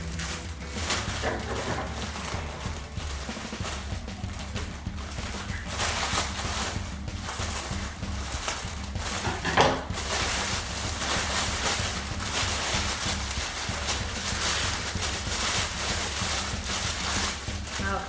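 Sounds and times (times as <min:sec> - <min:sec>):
low electrical hum: 0:00.0 - 0:18.0
plastic packaging crinkling: 0:00.0 - 0:18.0.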